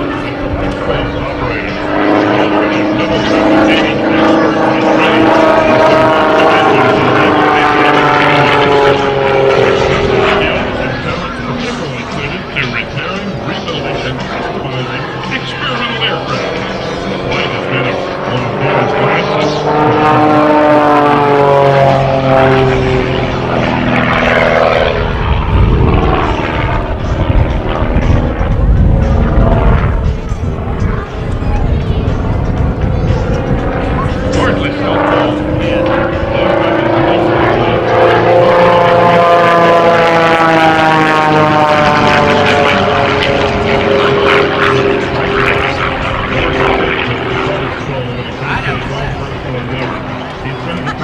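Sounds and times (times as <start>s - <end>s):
low rumble: 0.0s - 47.8s
propeller plane flying past: 0.0s - 51.0s.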